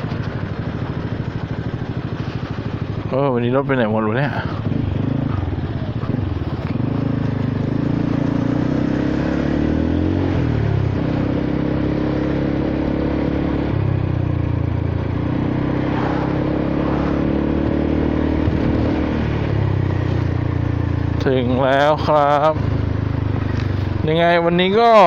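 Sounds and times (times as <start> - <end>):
scooter engine revving: 0.0 - 25.0.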